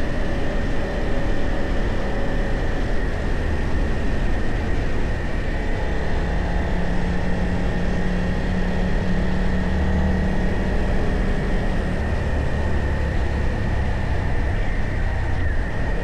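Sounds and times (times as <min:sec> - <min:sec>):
constant rush of noise: 0:00.0 - 0:16.0.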